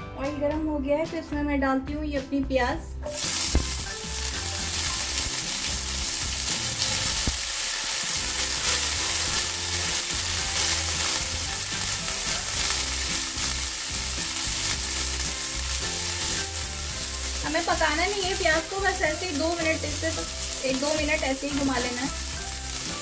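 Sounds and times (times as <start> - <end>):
onions sizzling in hot oil: 3.1 - 23.0.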